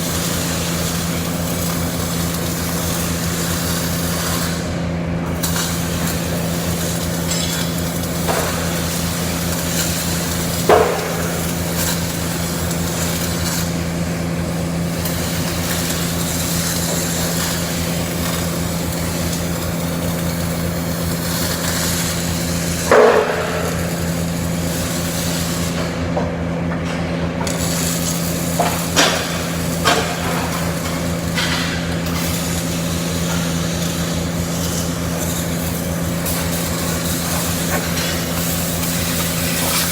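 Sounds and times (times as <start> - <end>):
welding arc buzzing crackle: 0.0 - 39.9.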